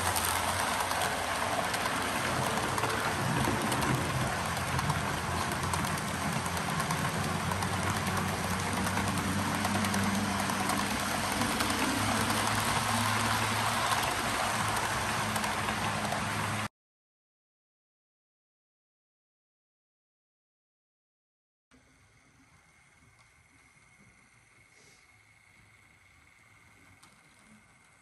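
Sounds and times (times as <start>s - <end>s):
model train wheels rattling on rails: 0.0s - 16.7s, 22.1s - 28.0s.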